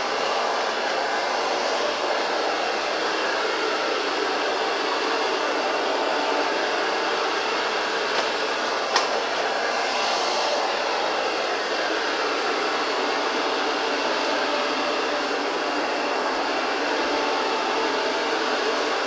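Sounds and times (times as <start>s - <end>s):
robot vacuum cleaner running: 0.0s - 19.0s.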